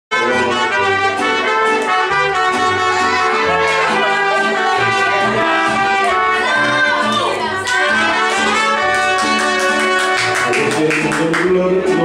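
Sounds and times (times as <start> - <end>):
trumpets playing tune: 0.1 - 10.9
bass line: 0.1 - 12.0
strummed guitars: 0.1 - 12.0.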